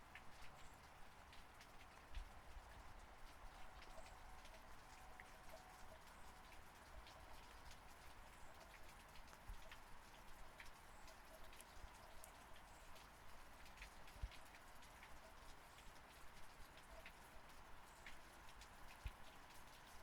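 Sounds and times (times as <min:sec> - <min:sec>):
faint steady rain: 0:00.0 - 0:20.0
raindrops ticking: 0:00.0 - 0:20.0.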